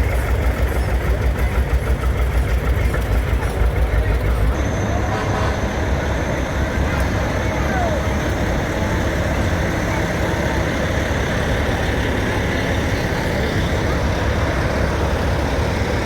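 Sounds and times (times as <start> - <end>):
vehicles rumbling past: 0.0 - 16.0
faint voices: 0.5 - 16.0.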